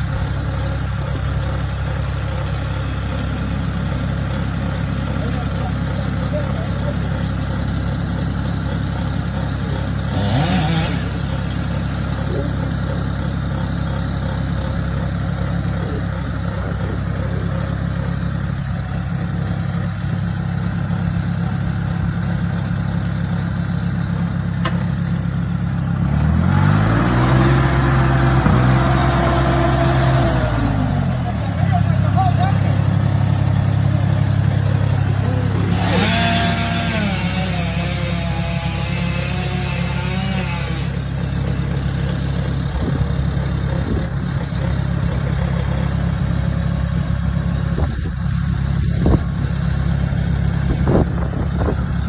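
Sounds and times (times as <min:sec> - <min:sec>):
heavy engine idling and revving: 0:00.0 - 0:52.0.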